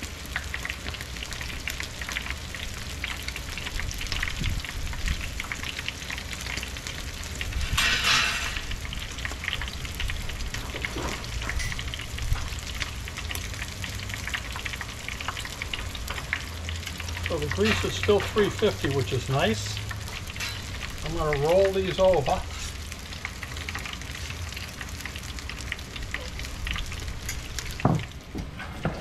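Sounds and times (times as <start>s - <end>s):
food deep-frying in hot oil: 0.0s - 29.0s.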